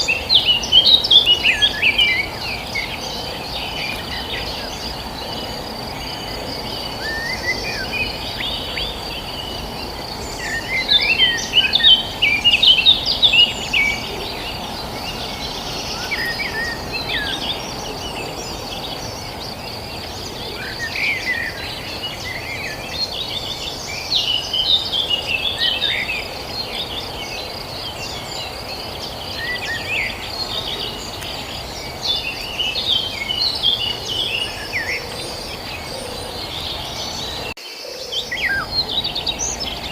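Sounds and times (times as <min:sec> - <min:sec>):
insect drone: 0:00.0 - 0:39.9
small birds chirping: 0:00.0 - 0:39.9.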